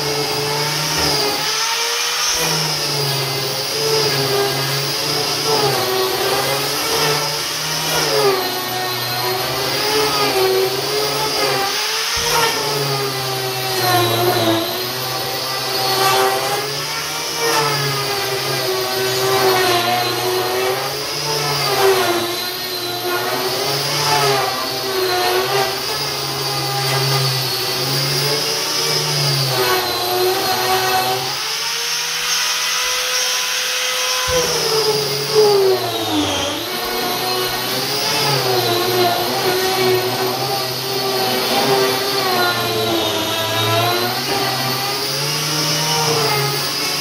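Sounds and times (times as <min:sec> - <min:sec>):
dust-extraction vacuum: 0:00.0 - 0:47.0
electric paint stripper motor: 0:00.0 - 0:47.0.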